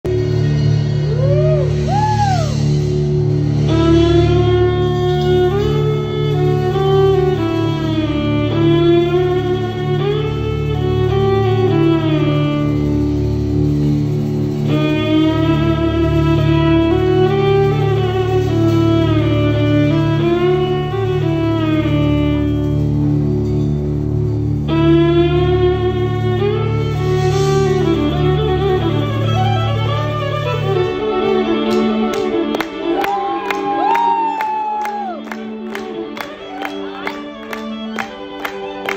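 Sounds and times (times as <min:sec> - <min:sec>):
bass and keyboard backing: 0:00.0 - 0:38.9
electric violin melody: 0:00.0 - 0:38.9.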